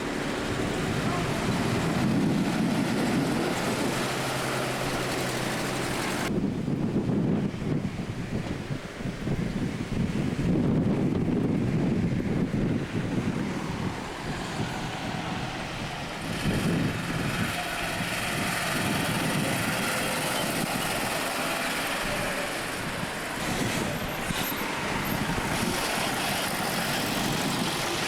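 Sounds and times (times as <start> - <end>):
motor vehicles passing: 0.0 - 6.3, 10.4 - 28.0.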